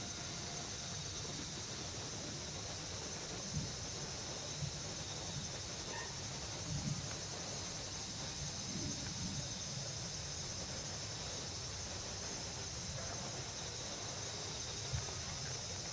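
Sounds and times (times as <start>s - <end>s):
insect chorus: 0.0s - 15.9s.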